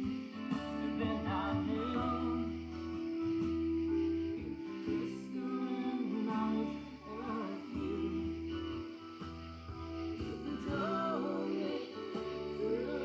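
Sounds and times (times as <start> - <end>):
song with singing over guitar: 0.0 - 13.0.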